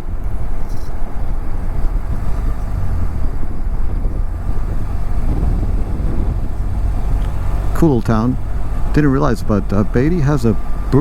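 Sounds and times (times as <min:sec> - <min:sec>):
wind noise on microphone: 0:00.0 - 0:09.0
motorcycle engine rumble: 0:00.0 - 0:11.0.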